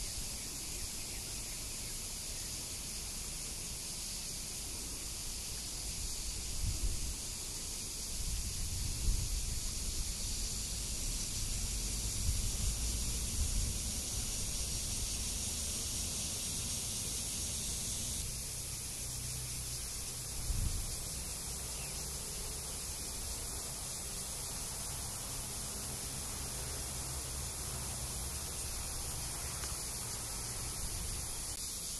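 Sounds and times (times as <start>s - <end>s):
cicadas buzzing: 0.0s - 31.9s.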